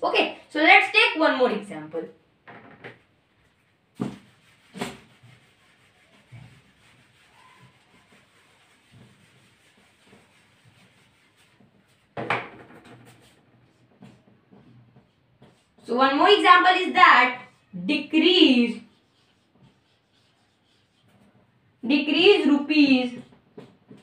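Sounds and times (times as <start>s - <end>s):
eraser rubbing on whiteboard: 3.4s - 24.0s.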